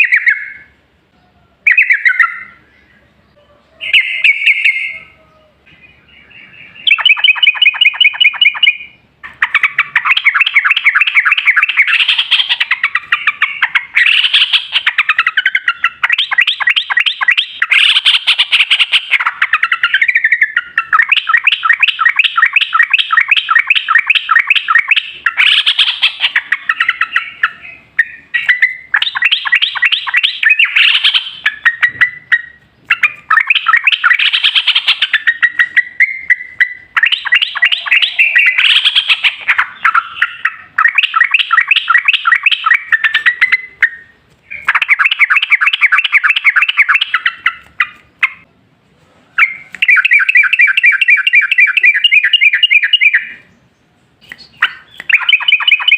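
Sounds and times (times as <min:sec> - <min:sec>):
bird singing rapid song: 0:00.0 - 0:48.5, 0:49.4 - 0:55.9.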